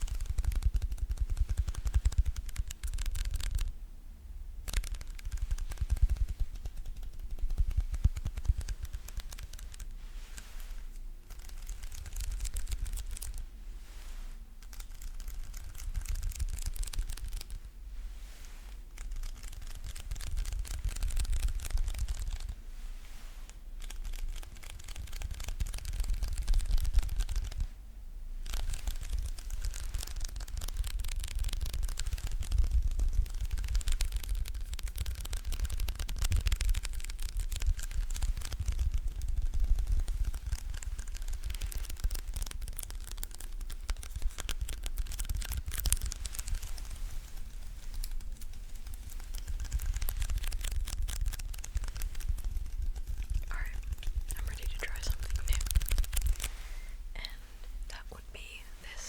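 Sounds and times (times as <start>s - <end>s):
sticky crackling and peeling: 4.7s - 13.4s, 14.6s - 17.6s, 18.7s - 22.6s, 23.5s - 27.7s, 28.4s - 56.6s.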